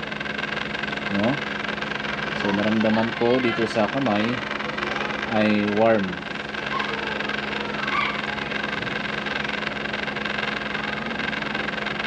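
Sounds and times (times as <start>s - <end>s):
immersion circulator pump humming: 0.0s - 12.0s.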